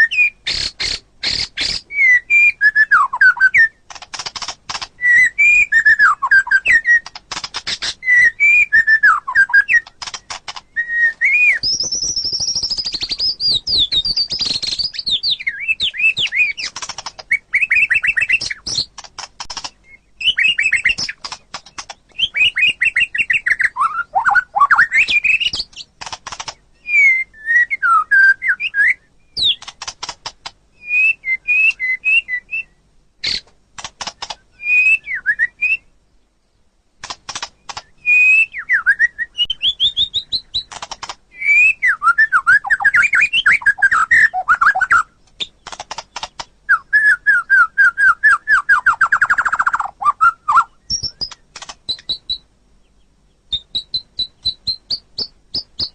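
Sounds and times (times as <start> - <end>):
songbird singing varied song: 0.0 - 55.9.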